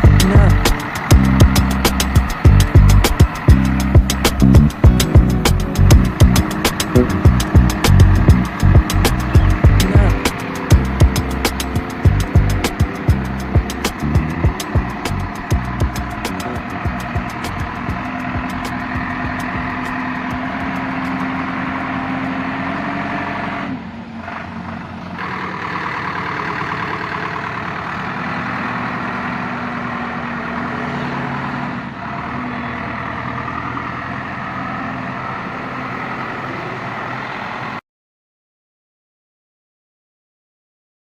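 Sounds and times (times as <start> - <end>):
large engine running: 0.0 - 37.8.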